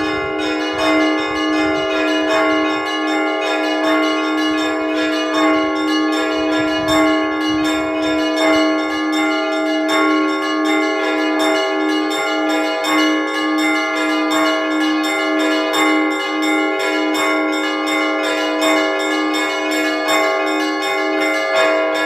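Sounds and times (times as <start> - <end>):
church bells pealing: 0.0 - 22.0
heavy bell stroke: 0.0 - 22.0.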